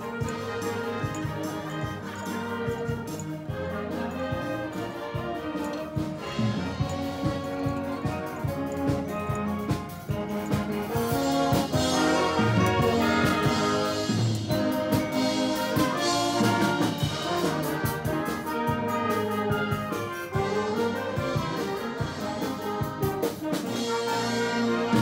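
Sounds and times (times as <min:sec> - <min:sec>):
brass-led instrumental music: 0:00.0 - 0:25.0.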